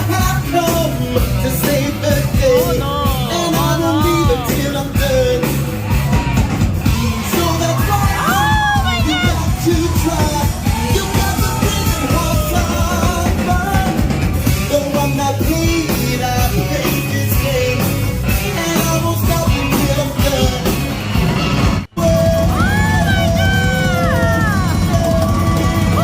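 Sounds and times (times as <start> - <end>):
live rock and roll band: 0.0 - 26.0.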